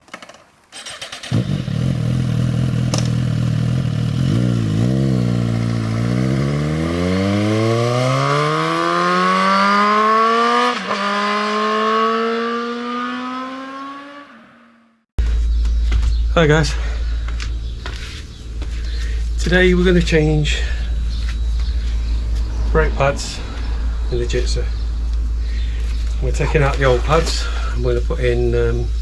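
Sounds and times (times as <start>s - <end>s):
motorcycle engine revving: 0.7s - 29.0s.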